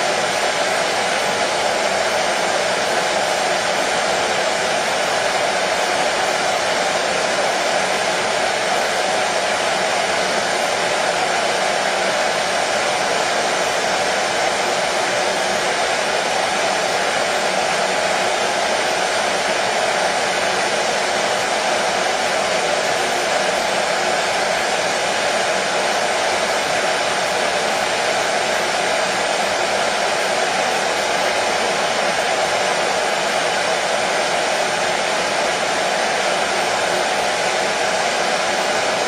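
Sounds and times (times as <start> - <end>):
hair dryer running: 0.0 - 39.0.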